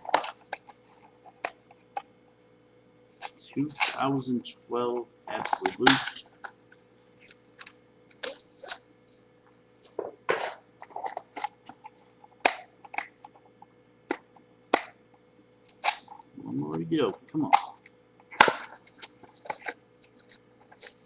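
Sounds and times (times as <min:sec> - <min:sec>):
card packaging clicks and crinkles: 0:00.0 - 0:02.1, 0:03.1 - 0:04.2, 0:05.3 - 0:15.0, 0:15.7 - 0:16.8, 0:17.4 - 0:21.0.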